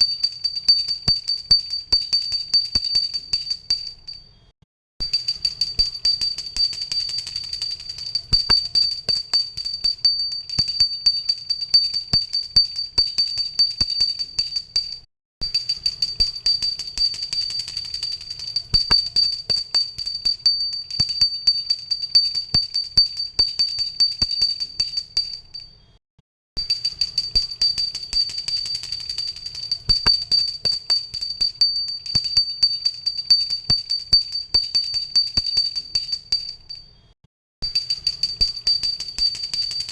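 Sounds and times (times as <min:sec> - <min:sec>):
hand bell ringing: 0:00.0 - 0:04.2, 0:05.0 - 0:25.8, 0:26.6 - 0:37.0, 0:37.6 - 0:39.9.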